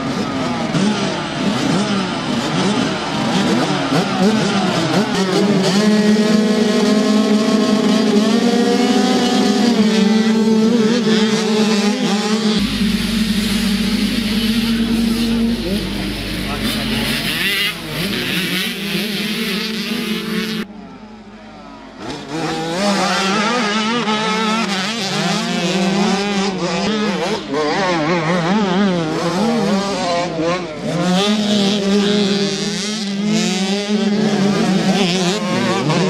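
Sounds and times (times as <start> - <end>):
two-stroke motocross bikes revving: 0.0 - 20.7, 21.9 - 36.0.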